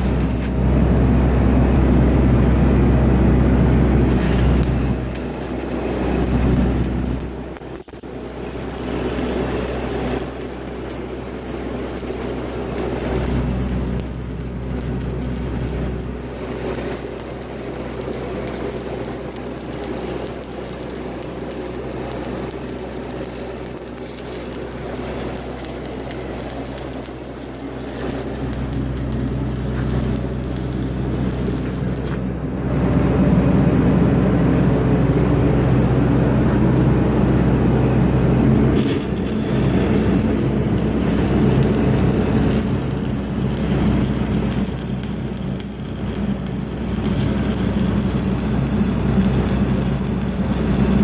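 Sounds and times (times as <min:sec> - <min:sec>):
low drone of welder engine: 0:00.0 - 0:51.0
welding arc crackling: 0:00.0 - 0:51.0.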